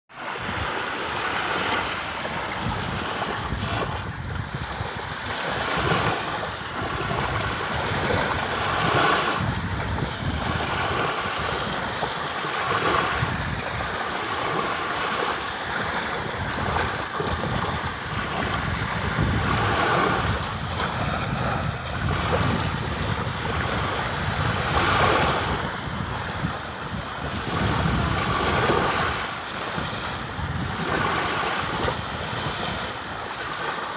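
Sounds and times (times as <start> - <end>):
sea waves washing in: 0.1 - 33.9
wind buffeting microphone: 0.2 - 33.9.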